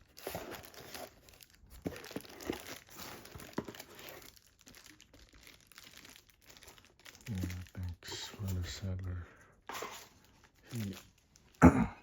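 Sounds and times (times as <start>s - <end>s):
packaging crinkling and rustling: 0.0s - 11.6s.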